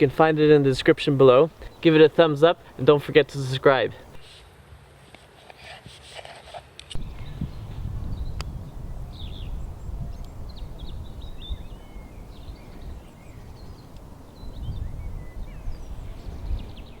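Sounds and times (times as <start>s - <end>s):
small birds chirping: 0.0s - 4.3s, 7.0s - 17.0s.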